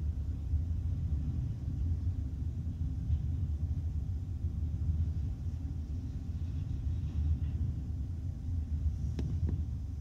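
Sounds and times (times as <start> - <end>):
muffled freight train rumble: 0.0 - 10.0.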